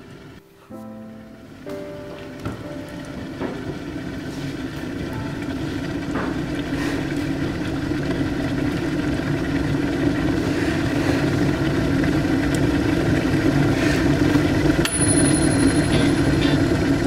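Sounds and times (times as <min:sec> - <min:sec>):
low rumbling drone: 0:01.0 - 0:17.0.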